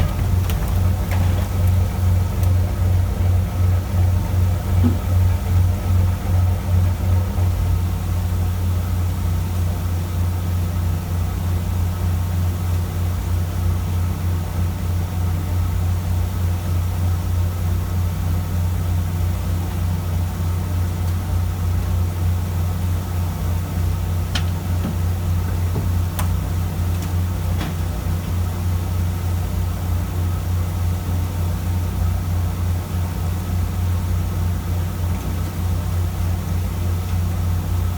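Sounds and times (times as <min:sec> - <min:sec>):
boat diesel engine droning: 0:00.0 - 0:37.9.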